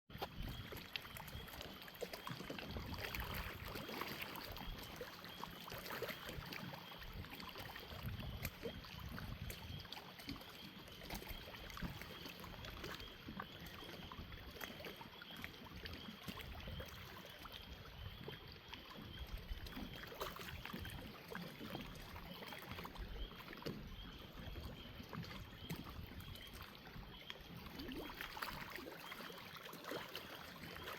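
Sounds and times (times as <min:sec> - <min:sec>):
small waves lapping: 0:00.1 - 0:30.9.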